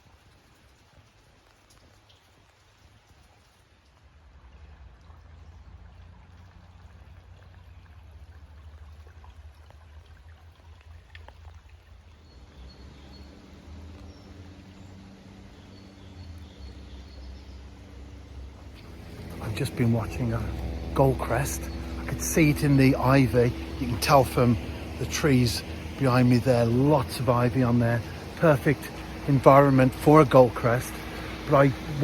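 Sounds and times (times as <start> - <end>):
low steady hum: 4.3 - 32.0.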